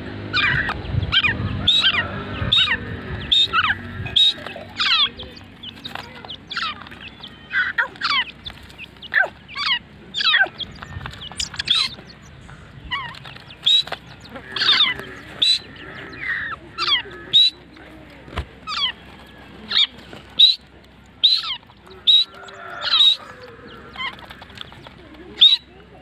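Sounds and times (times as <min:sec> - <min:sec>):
francolins calling: 0:00.0 - 0:26.0.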